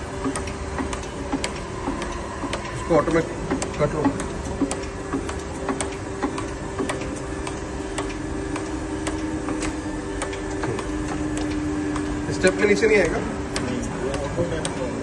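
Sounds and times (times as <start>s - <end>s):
grinder machine hum: 0.0s - 15.0s
sharp machine ticks: 0.2s - 15.0s.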